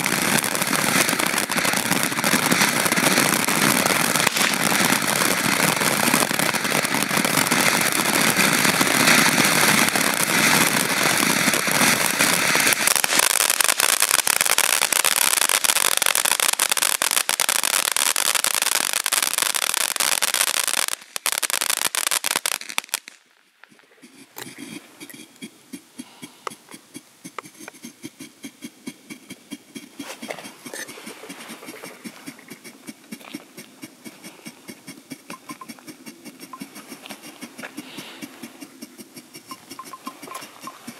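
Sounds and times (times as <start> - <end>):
faint rapid pops: 0.0 - 40.9
firework fountain crackling hiss: 0.0 - 40.9.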